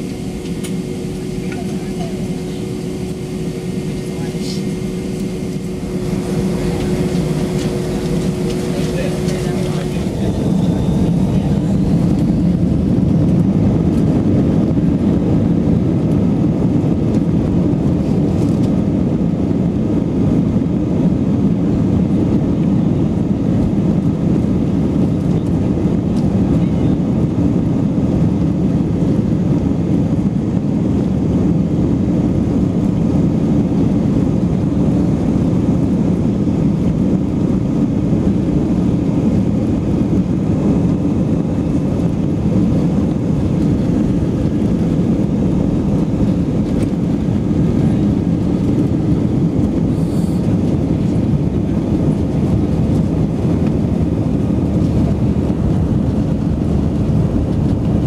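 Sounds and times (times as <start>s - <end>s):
jet engines at takeoff thrust: 0.0s - 58.0s.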